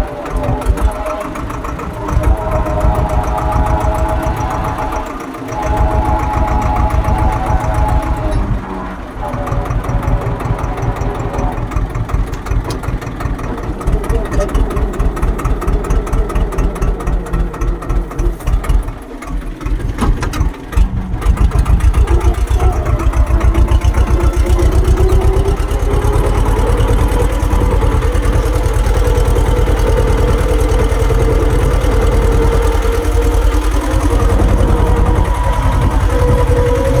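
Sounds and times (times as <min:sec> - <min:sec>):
engine whine: 0:00.0 - 0:37.0
tractor diesel engine: 0:00.0 - 0:37.0.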